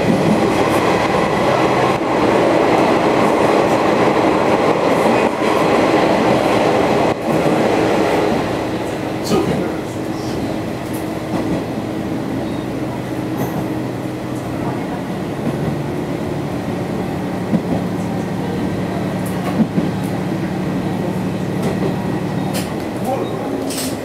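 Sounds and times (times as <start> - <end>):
diesel railcar engine drone: 0.0 - 24.0
wheel and rail noise: 0.0 - 24.0.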